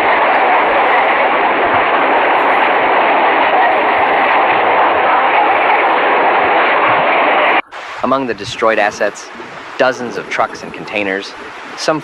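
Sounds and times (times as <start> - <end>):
floodwater roaring: 0.0 - 12.0.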